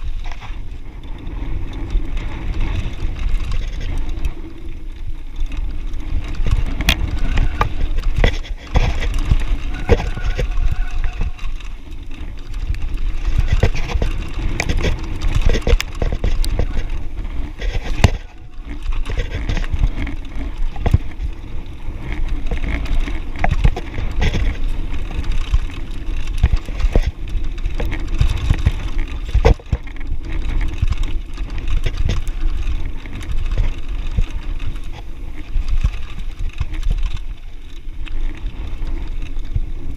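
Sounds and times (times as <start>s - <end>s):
bike clicks and rattles: 0.0s - 39.9s
tyres rumbling on gravel: 0.0s - 39.9s.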